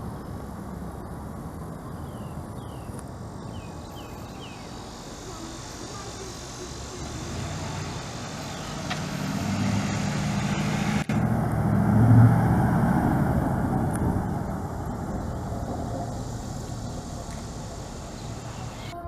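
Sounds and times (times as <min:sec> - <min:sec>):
fire engine driving past: 0:03.5 - 0:19.0.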